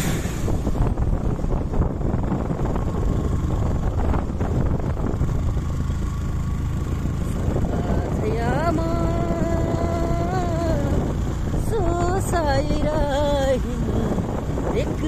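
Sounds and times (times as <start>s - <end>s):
wind buffeting microphone: 0.0s - 15.0s
motorcycle engine running: 0.6s - 15.0s.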